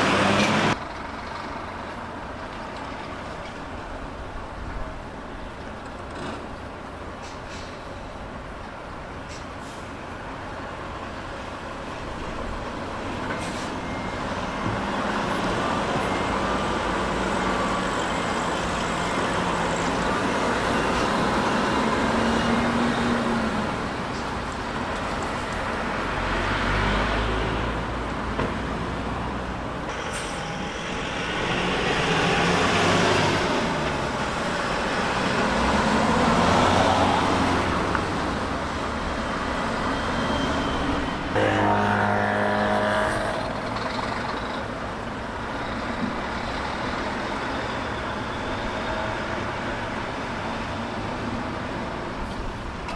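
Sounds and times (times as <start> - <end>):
road traffic: 0.0 - 52.9.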